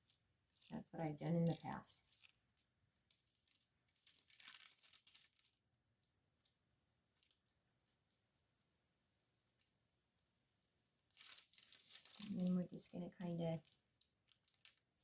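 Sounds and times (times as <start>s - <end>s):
crinkling of craft materials: 0.0s - 8.7s, 9.4s - 9.8s, 11.0s - 15.0s.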